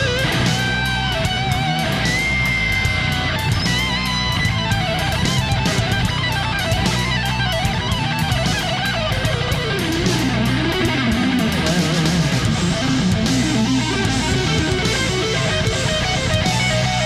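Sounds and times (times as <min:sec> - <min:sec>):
bass line: 0:00.0 - 0:17.0
rock guitar music: 0:00.0 - 0:17.0.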